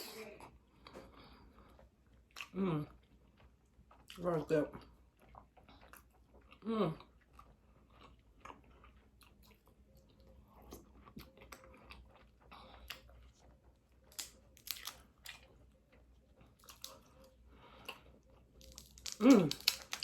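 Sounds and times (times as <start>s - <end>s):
soft chewing: 0.4s - 20.0s.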